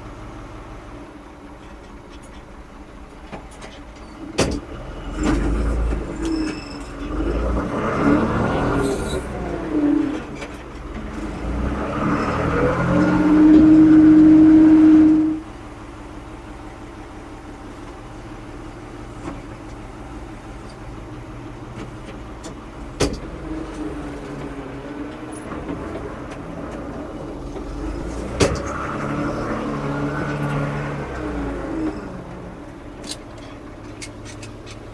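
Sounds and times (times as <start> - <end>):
diesel engine running: 0.0 - 34.9
engine whine: 3.3 - 34.9.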